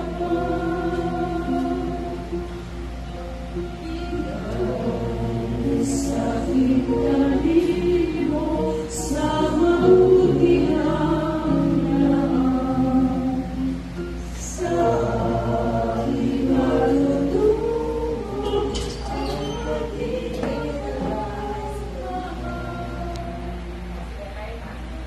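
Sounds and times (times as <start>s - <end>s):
many voices singing slow song: 0.0s - 24.0s.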